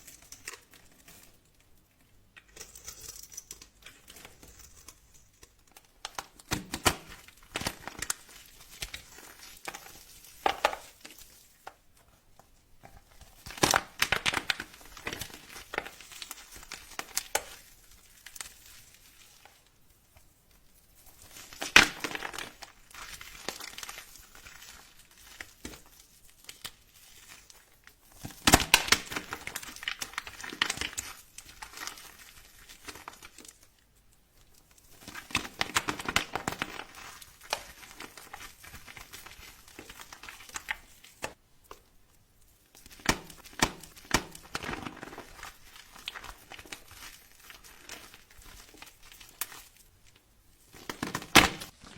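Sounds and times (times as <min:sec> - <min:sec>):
dry soap crunching: 0:00.0 - 0:51.9.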